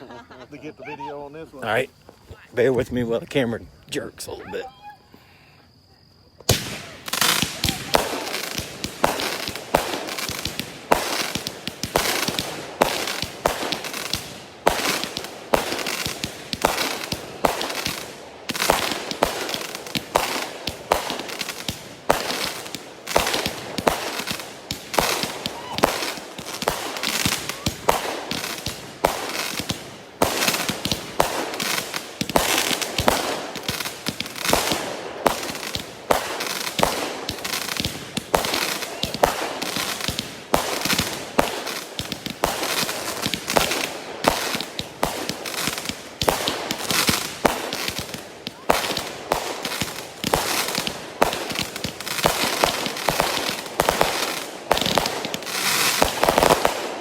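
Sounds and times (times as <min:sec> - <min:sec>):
fireworks bangs and crackles: 0:06.4 - 0:57.0.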